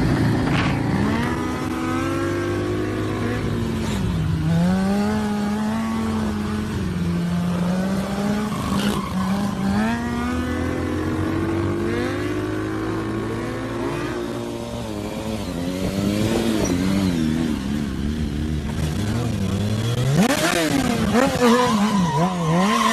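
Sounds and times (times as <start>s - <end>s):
motorcycle engines revving: 0.0s - 22.9s.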